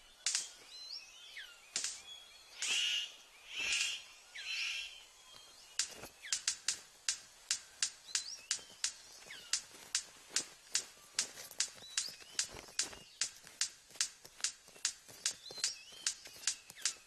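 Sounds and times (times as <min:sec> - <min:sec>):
whistled falling bird calls: 0:00.0 - 0:06.6, 0:07.6 - 0:09.8, 0:10.7 - 0:13.5, 0:14.5 - 0:17.0
harsh buzzy bird calls: 0:00.0 - 0:17.0
sharp bird clicks: 0:00.2 - 0:17.0.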